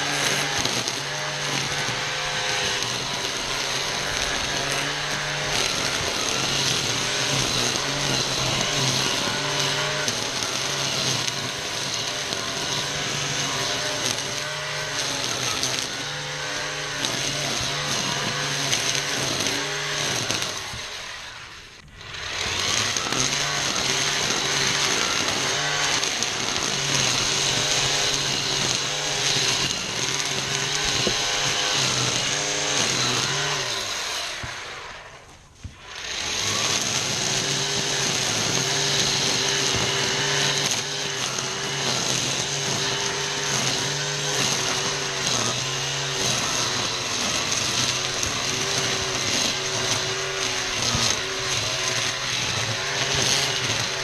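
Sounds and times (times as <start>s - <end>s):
string trimmer cutting grass: 0.0s - 54.0s.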